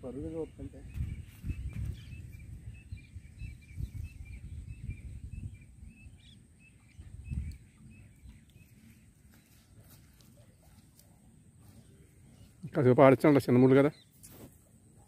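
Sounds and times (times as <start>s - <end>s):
bird chirping: 0.0s - 14.4s.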